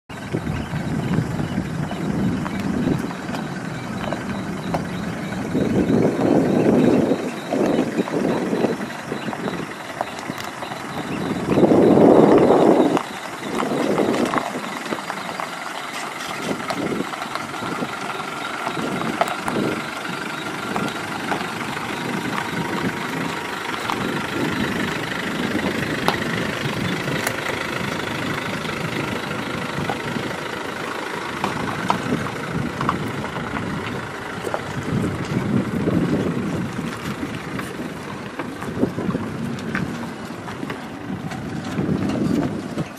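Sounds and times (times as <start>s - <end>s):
car engine running at low revs: 0.1s - 42.9s.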